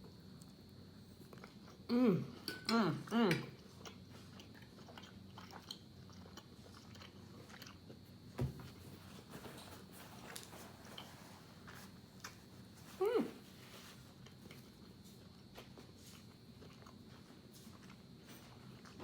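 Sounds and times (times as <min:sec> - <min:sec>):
chewing and crunching: 0:00.3 - 0:01.9, 0:03.4 - 0:19.0.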